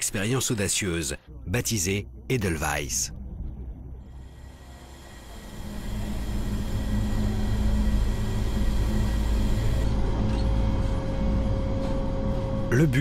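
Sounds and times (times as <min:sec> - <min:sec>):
held low tones: 0:01.2 - 0:12.9
low mechanical hum: 0:01.2 - 0:13.0.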